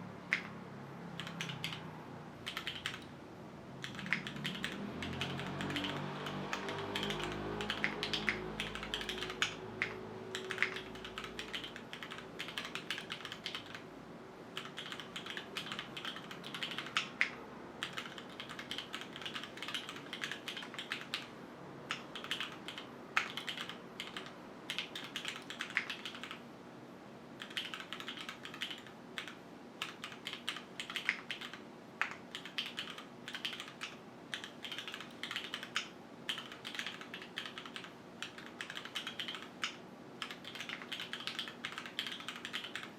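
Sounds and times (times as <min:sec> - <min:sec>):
mechanical keyboard typing: 0:00.2 - 0:03.1, 0:03.8 - 0:13.9, 0:14.5 - 0:26.4, 0:27.4 - 0:42.9.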